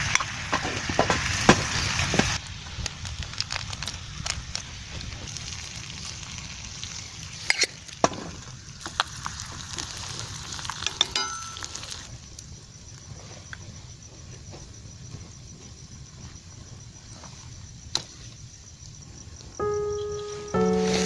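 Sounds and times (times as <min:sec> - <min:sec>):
wood fire crackling: 0:00.0 - 0:17.2.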